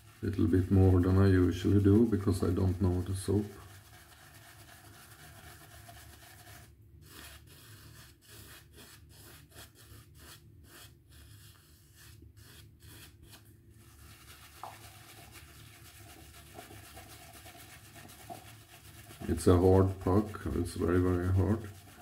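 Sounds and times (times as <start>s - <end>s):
shaving brush rubbing on soap: 0.0s - 22.0s.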